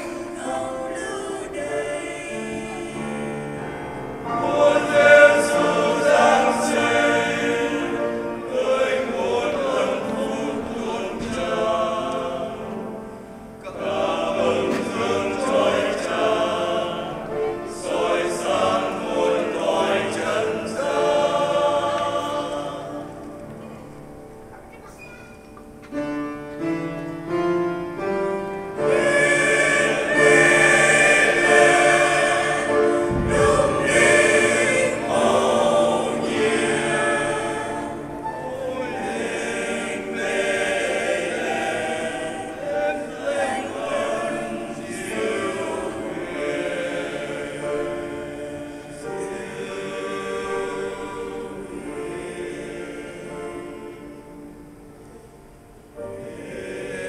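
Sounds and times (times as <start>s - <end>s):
mixed choir singing: 0.0s - 24.4s, 25.9s - 57.0s.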